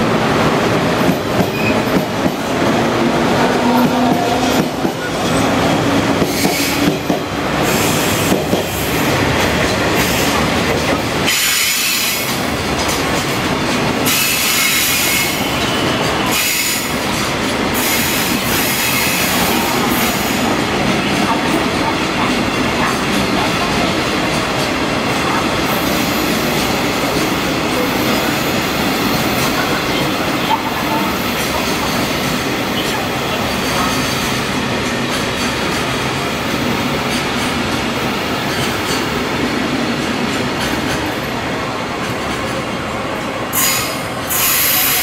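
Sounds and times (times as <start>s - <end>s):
train wheels rolling on rail: 0.0s - 45.0s.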